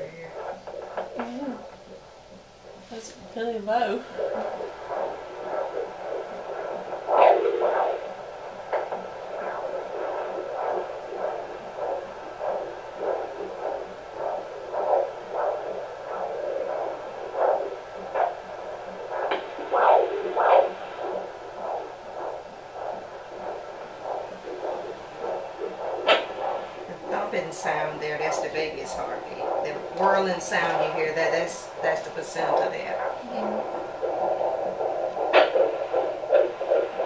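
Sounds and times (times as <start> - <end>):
fetal heartbeat whooshing pulses: 0.0 - 37.0
whirling blood flow: 2.6 - 37.0.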